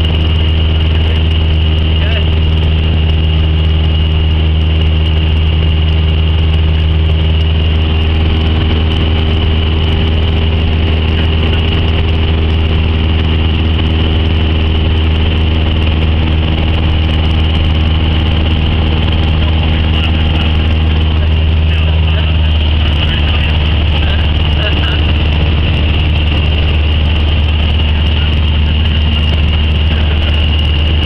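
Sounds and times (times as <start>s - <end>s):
airplane engine drone in cabin: 0.0s - 31.0s.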